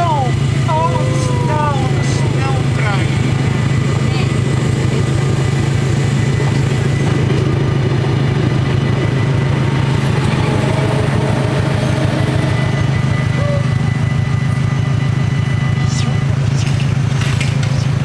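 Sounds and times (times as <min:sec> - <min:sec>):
train rolling past: 0:00.0 - 0:18.0
vehicle engine idling: 0:00.0 - 0:18.0.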